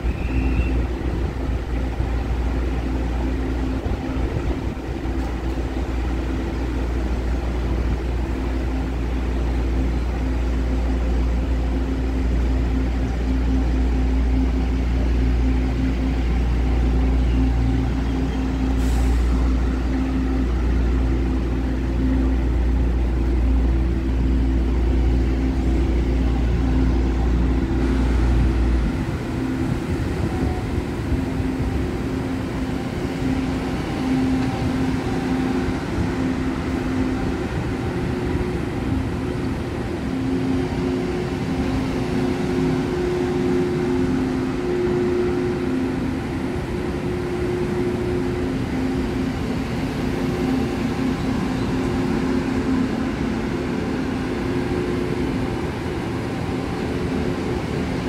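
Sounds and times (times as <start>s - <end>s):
train humming drone: 0.0s - 58.0s.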